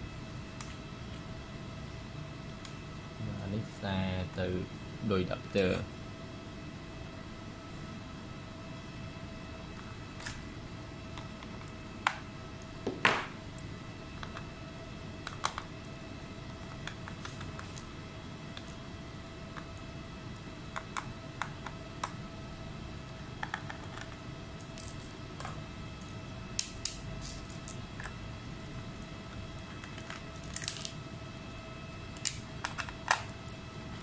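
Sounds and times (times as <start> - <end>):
steady faint hum: 0.0 - 34.0.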